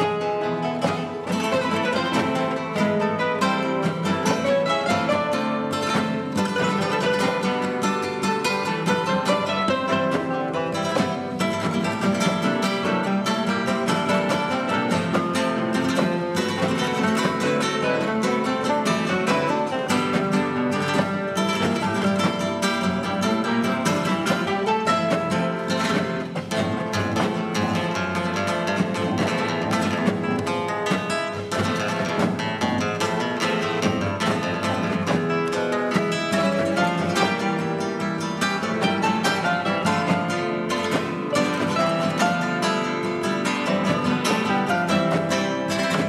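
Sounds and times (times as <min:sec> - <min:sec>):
plucked string instrument music: 0:00.0 - 0:46.0.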